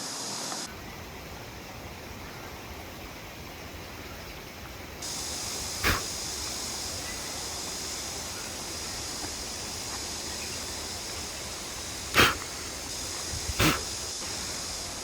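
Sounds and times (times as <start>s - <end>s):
mountain stream rushing: 0.0s - 15.0s
steady high hiss: 0.0s - 15.0s.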